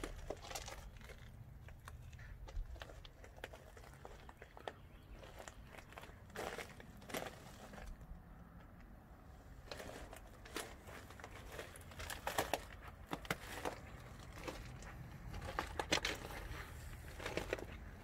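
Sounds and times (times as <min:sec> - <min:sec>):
footsteps crunching on gravel: 0:00.0 - 0:08.1, 0:09.6 - 0:18.0.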